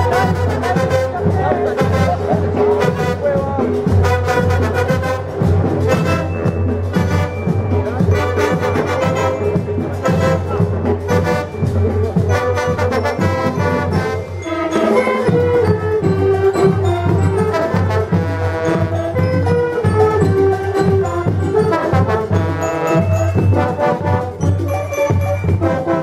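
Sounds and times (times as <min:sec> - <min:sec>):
drums steady beat: 0:00.0 - 0:26.0
marching band brass and woodwinds: 0:00.0 - 0:26.0.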